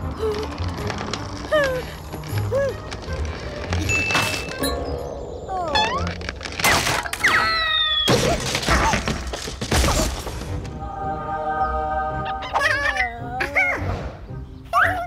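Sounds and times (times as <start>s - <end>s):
cartoon background music: 0.0s - 15.0s.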